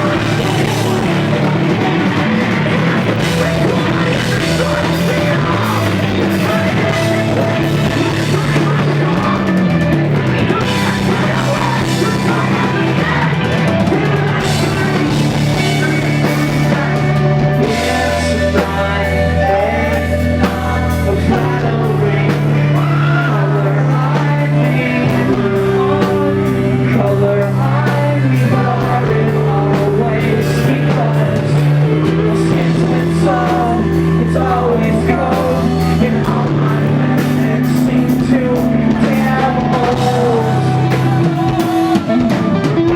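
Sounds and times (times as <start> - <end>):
person singing: 0.0 - 42.9
rock band playing live: 0.0 - 42.9.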